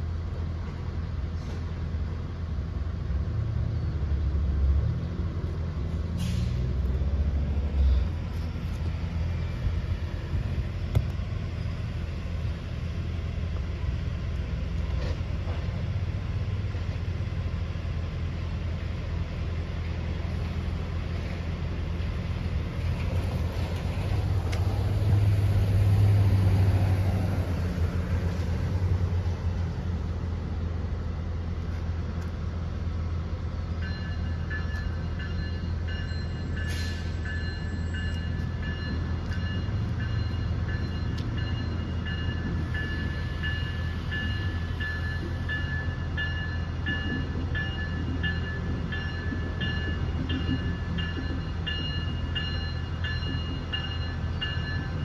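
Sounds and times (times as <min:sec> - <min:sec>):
diesel locomotive engine rumbling: 0:00.0 - 0:55.0.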